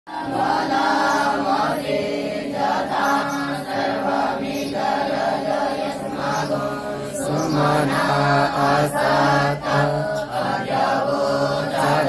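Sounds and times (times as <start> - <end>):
children chanting together: 0.1 - 12.0.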